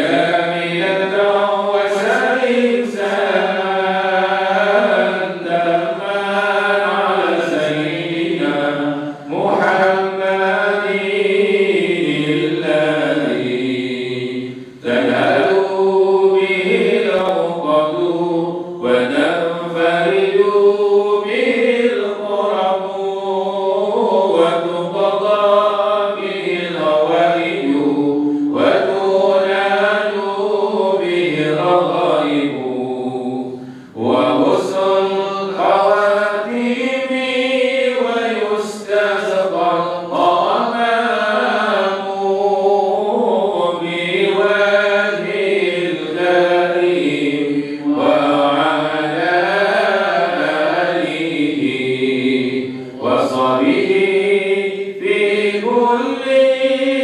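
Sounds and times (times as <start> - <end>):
man chanting into microphone: 0.0 - 57.0.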